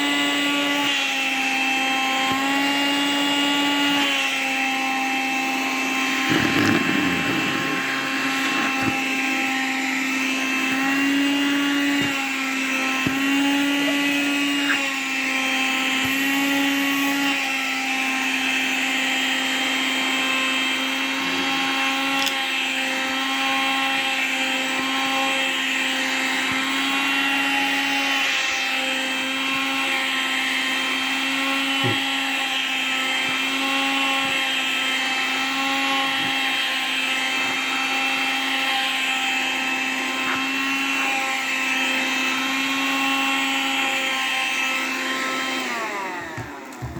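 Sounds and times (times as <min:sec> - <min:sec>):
vacuum cleaner whining: 0:00.0 - 0:46.9.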